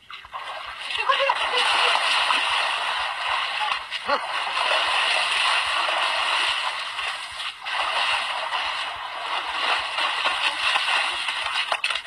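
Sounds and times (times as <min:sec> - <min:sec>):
fish thrashing and splashing water: 0:00.0 - 0:12.0.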